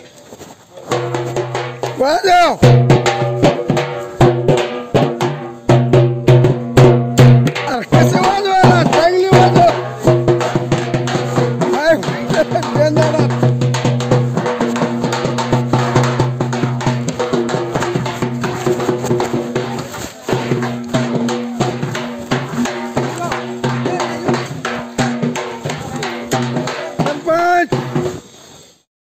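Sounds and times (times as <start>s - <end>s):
frame drum beaten with sticks: 0.9s - 28.2s.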